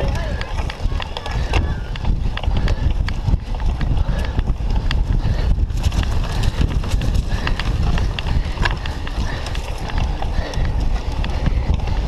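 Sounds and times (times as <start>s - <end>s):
bike rattling clicks and knocks: 0.0s - 12.0s
bike rumble over grass: 0.0s - 12.0s.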